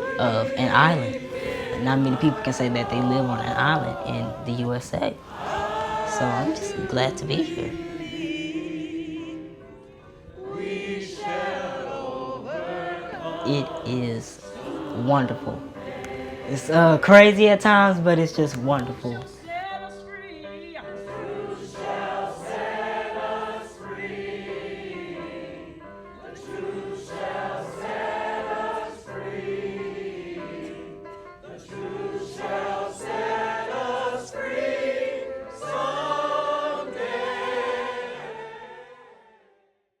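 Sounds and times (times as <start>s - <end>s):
choir singing: 0.0s - 39.7s.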